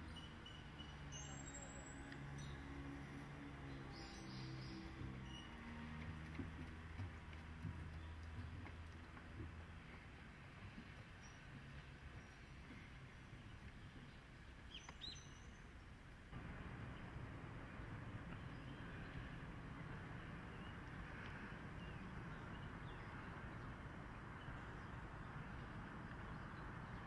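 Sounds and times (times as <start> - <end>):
faint outdoor background noise: 0.0 - 27.0.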